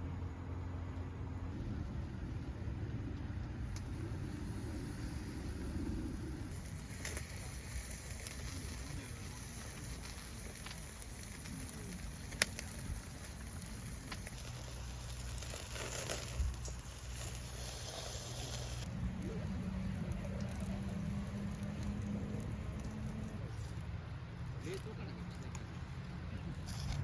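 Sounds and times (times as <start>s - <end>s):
wood campfire crackling: 1.5s - 27.0s.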